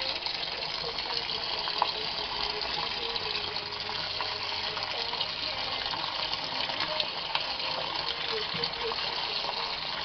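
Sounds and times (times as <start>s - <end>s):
washing machine filling with water: 0.0s - 10.0s.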